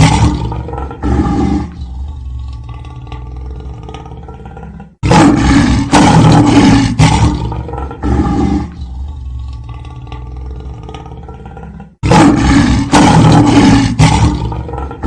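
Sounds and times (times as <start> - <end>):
harsh growling bursts: 0.0 - 15.0.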